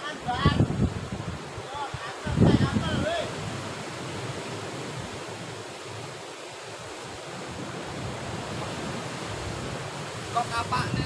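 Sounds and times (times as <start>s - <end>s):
surf washing against rocks: 0.0s - 11.0s
wind rumbling on microphone: 0.0s - 11.0s.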